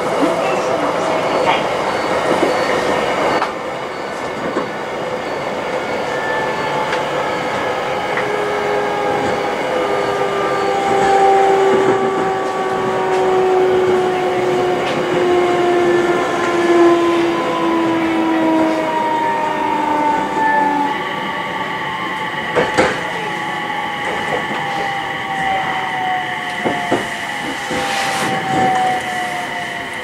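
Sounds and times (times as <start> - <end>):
train wheels running on rails: 0.0 - 30.0
electric train motor whine: 1.7 - 30.0.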